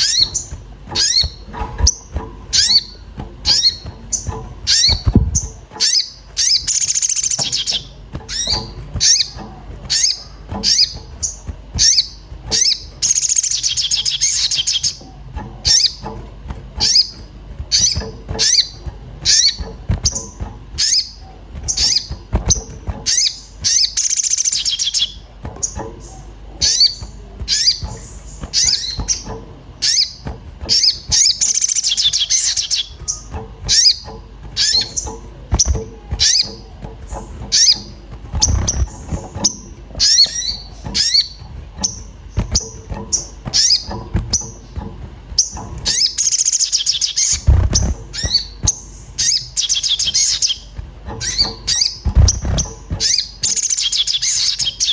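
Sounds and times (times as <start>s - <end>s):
bird chattering: 0.0s - 54.9s.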